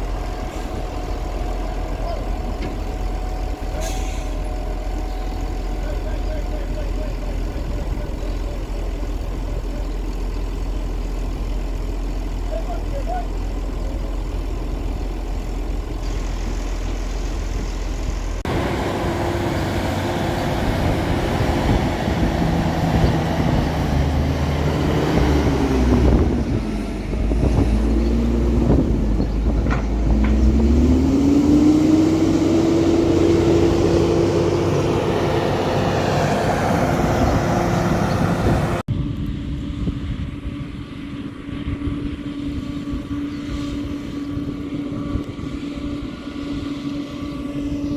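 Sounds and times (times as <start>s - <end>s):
diesel farm machinery running: 0.0s - 47.9s.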